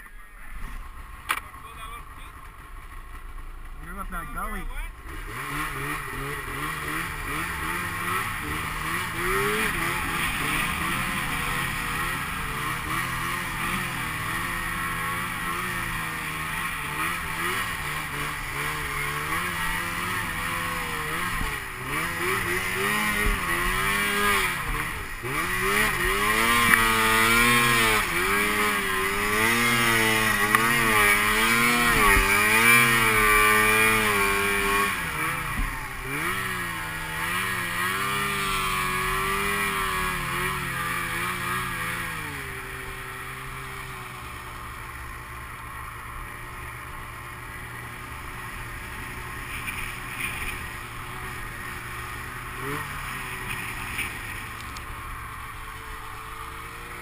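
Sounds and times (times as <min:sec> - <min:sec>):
snowmobile engine revving: 0:03.7 - 0:57.0.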